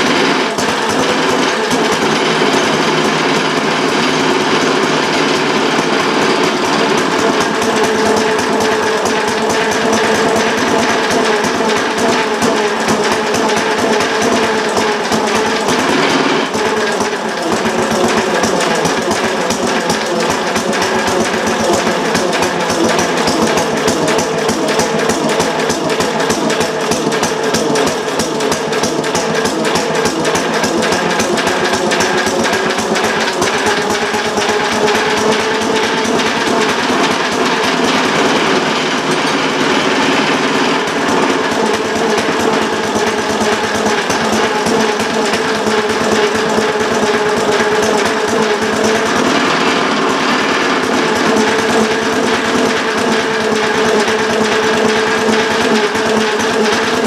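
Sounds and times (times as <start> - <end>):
single-cylinder engine running rough: 0.0 - 57.0.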